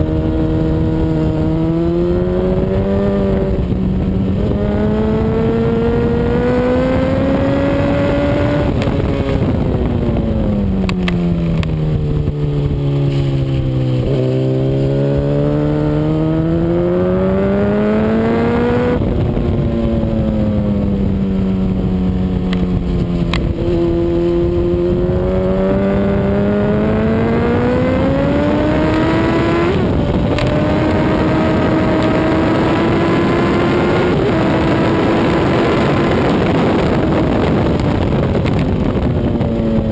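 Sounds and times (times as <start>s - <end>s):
motorcycle engine revving: 0.0s - 39.9s
rush of wind: 0.0s - 39.9s.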